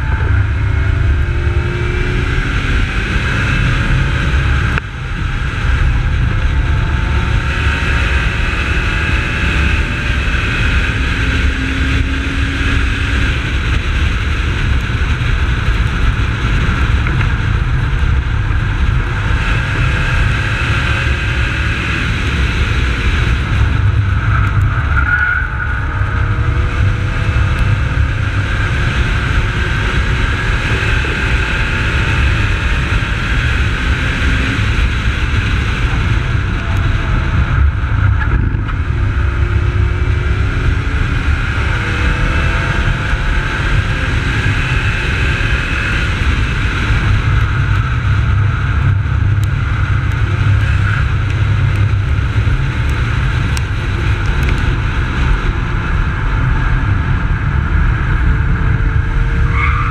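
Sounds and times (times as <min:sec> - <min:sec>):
car engine revving through gears: 0:00.0 - 0:59.9
low rumble of wind and road noise: 0:00.0 - 0:59.9.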